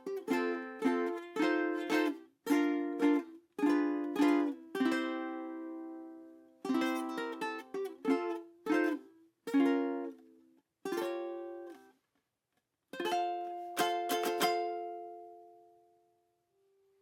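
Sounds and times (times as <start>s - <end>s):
ukulele strummed chords: 0.0s - 11.9s, 12.9s - 15.8s.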